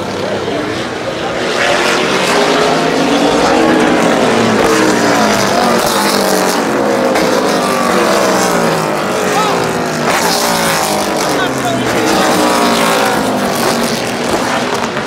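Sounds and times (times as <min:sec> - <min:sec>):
race car engines passing: 0:00.0 - 0:15.0.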